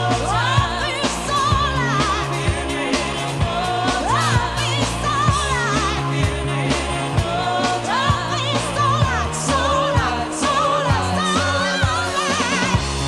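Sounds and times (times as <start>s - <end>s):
bass: 0.0s - 13.0s
singer with wide vibrato: 0.0s - 13.0s
steady drum beat: 0.0s - 13.0s.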